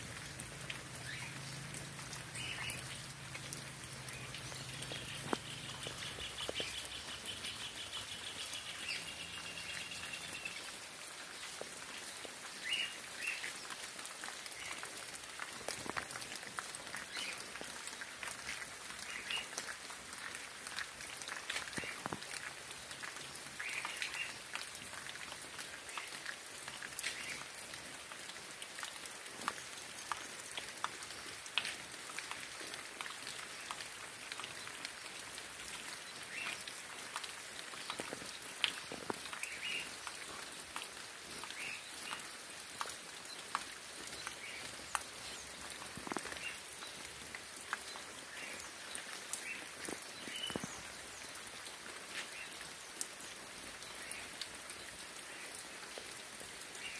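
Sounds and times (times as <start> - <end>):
rain drops ticking on a surface: 0.0 - 56.9.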